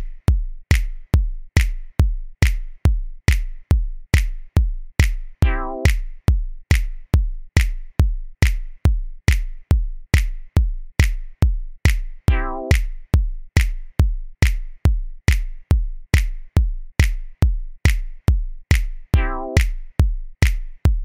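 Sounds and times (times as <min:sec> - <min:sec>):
kick drum: 0:00.0 - 0:21.0.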